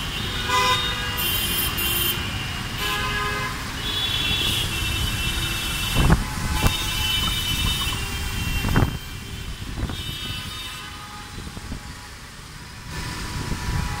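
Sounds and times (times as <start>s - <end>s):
traffic moving through floodwater: 0.0s - 14.0s.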